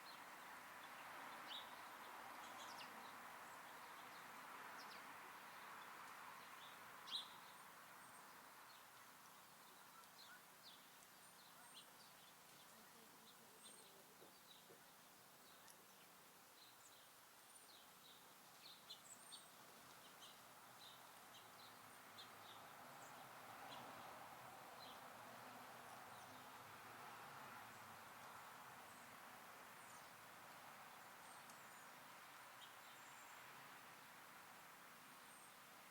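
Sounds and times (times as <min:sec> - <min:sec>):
faint steady hiss: 0:00.0 - 0:35.9
songbirds chirping: 0:00.0 - 0:35.9.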